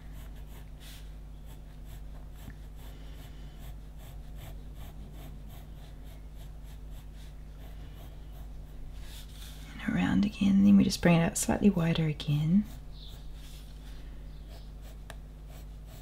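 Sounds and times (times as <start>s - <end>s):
pencil scratching on paper: 0.0s - 9.6s, 11.7s - 16.0s
steady low hum: 0.0s - 16.0s.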